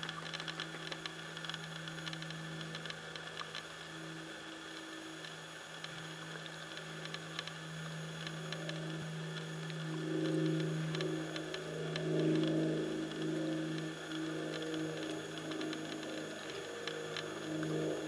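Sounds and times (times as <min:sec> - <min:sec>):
faint clicks: 0:00.0 - 0:18.0
low hum: 0:00.0 - 0:18.0.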